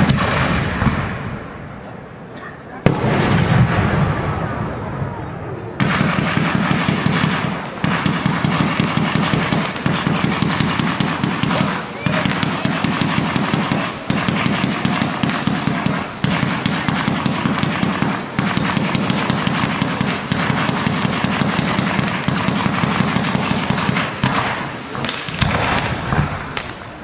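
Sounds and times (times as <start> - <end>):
firework battery rapid shots: 0.0 - 1.8, 2.8 - 5.2, 5.8 - 27.0
heavy firework burst: 0.0 - 27.0.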